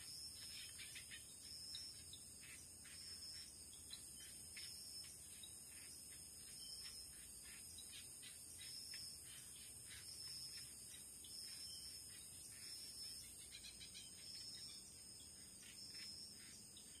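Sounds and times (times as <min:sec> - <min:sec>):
high-pitched insect drone: 0:00.0 - 0:17.0
pulsing insect trill: 0:00.0 - 0:17.0
short insect chirps: 0:00.0 - 0:17.0.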